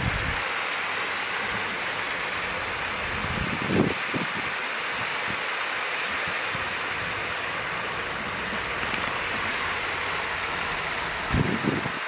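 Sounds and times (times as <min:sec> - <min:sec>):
shallow flowing water hissing: 0:00.0 - 0:12.0.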